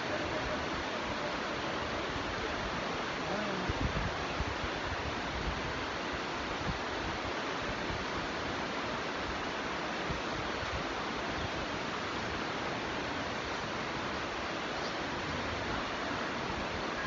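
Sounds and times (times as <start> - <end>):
floodwater rushing down street: 0.0 - 17.0.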